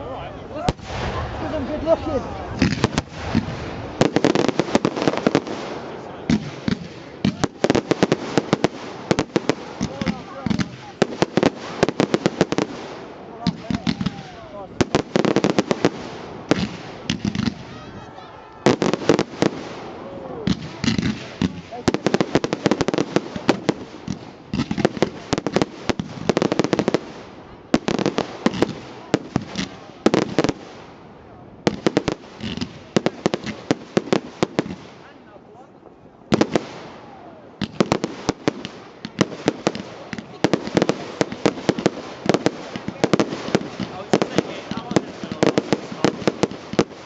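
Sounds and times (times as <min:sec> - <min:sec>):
fireworks bangs and crackles: 0:00.6 - 0:18.0, 0:18.6 - 0:47.0.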